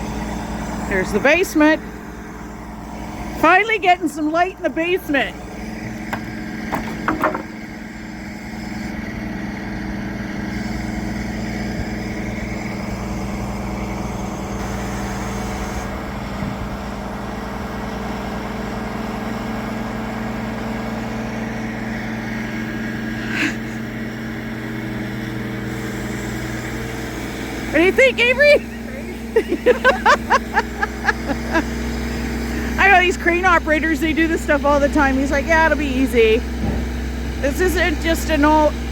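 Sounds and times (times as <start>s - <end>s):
crane diesel engine droning: 0.0s - 38.9s.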